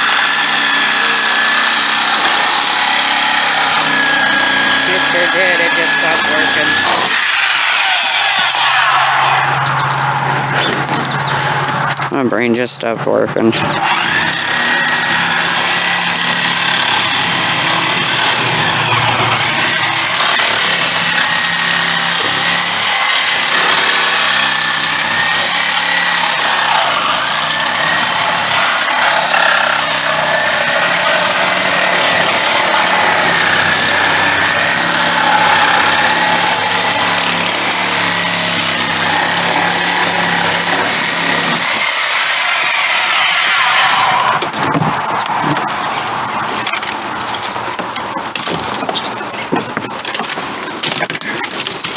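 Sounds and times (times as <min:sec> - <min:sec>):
power tool whining: 0:00.0 - 0:51.9.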